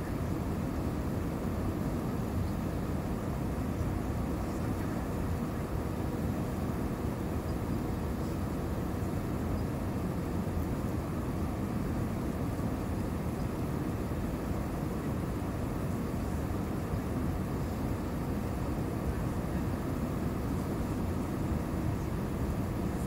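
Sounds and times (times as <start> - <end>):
airplane cabin engine noise: 0.0 - 23.0.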